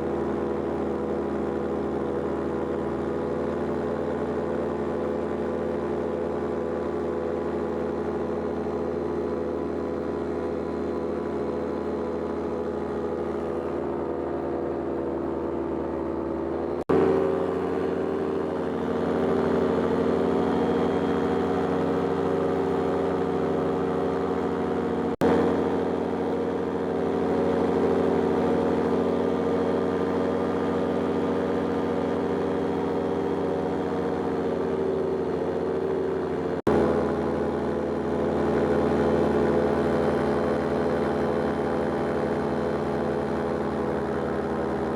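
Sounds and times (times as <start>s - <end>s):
paramotor engine droning: 0.0s - 44.9s.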